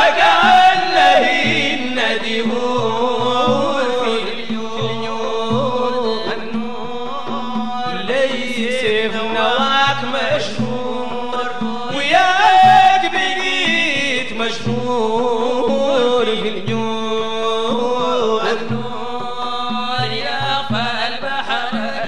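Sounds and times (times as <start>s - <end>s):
voices chanting a melody: 0.0s - 22.0s.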